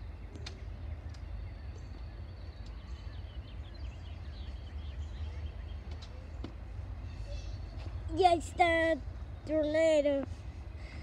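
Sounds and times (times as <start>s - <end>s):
birds chirping: 0.0s - 11.0s
distant train rumble: 0.0s - 11.0s.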